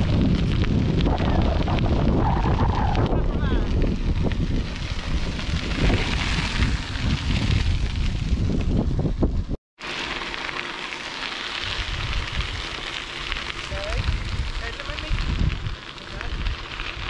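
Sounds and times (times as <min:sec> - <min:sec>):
wind buffeting microphone: 0:00.0 - 0:09.6, 0:11.6 - 0:12.8, 0:13.6 - 0:17.0.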